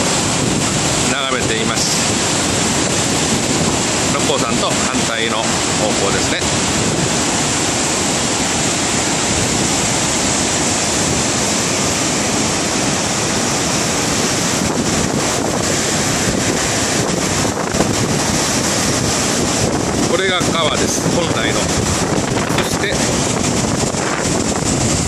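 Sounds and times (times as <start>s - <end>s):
floodwater rushing over a drop: 0.0s - 25.0s.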